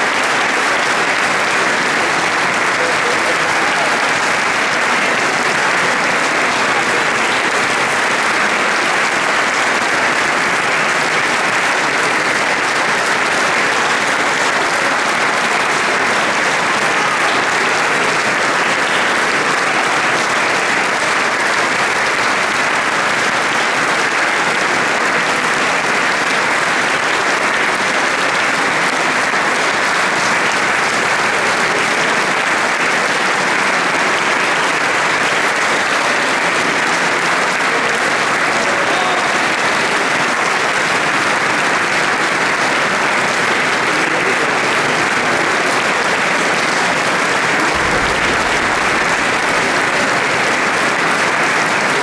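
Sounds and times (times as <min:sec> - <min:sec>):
large audience applauding: 0:00.0 - 0:52.0.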